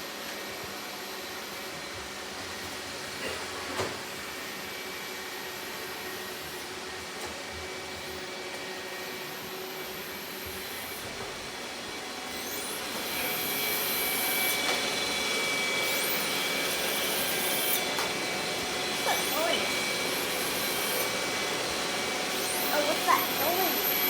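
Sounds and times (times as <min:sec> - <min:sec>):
robot vacuum cleaner whirring: 0:00.0 - 0:24.0.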